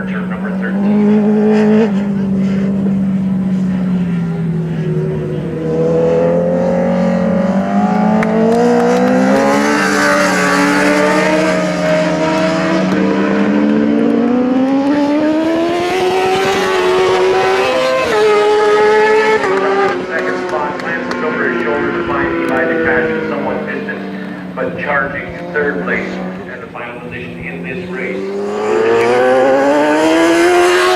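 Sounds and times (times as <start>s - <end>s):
motorcycle engine at full throttle: 0.0s - 30.9s.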